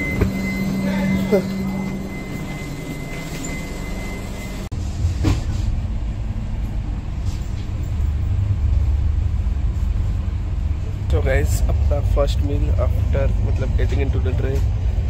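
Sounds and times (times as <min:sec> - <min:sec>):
train rumble inside coach: 0:00.0 - 0:15.0.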